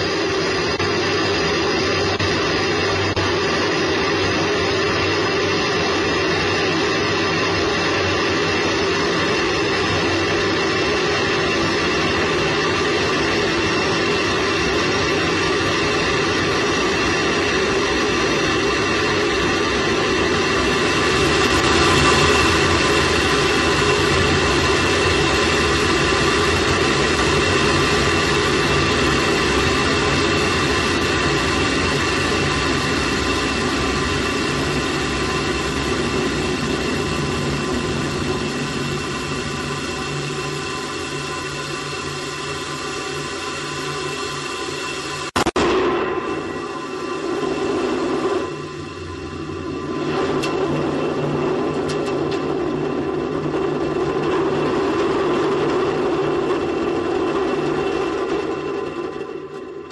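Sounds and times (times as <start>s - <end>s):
rattle of flight: 0.0s - 59.9s.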